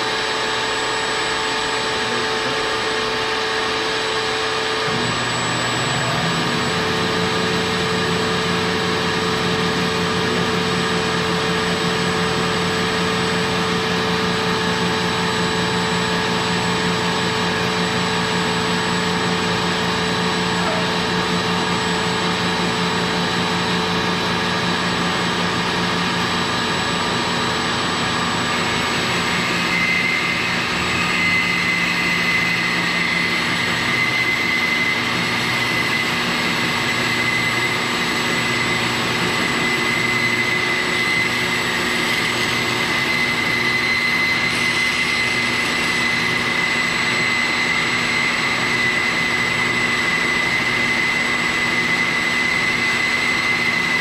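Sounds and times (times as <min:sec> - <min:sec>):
band saw running: 0:00.0 - 0:54.0
shop vacuum running: 0:00.0 - 0:54.0
steady high whine: 0:00.0 - 0:54.0.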